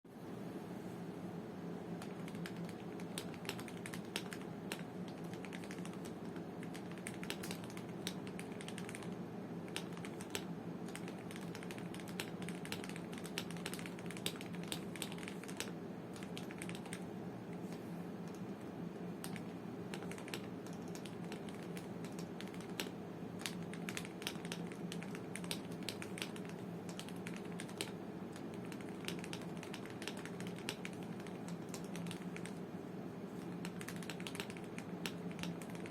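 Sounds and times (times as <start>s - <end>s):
mechanical keyboard typing: 2.0s - 17.0s, 19.2s - 32.6s, 33.5s - 35.9s.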